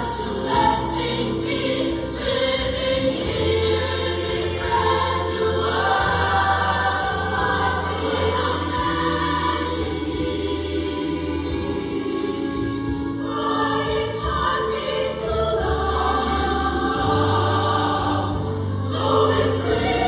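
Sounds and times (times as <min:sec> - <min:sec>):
choir singing held chords: 0:00.0 - 0:20.0.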